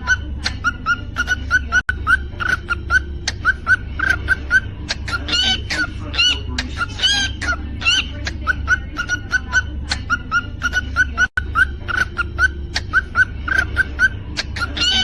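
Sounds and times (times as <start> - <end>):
cockatiel chirping: 0.0 - 15.0.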